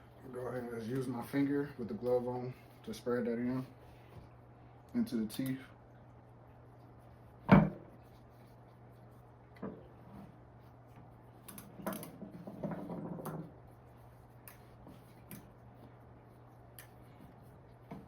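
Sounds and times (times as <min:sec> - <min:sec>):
faint steady hum: 0:00.0 - 0:18.0
rubbing and rustling: 0:00.0 - 0:18.0.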